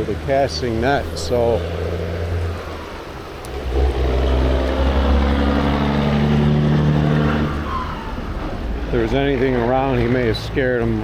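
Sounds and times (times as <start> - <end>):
constant rushing noise: 0.0 - 11.0
vehicle engine humming: 0.0 - 11.0.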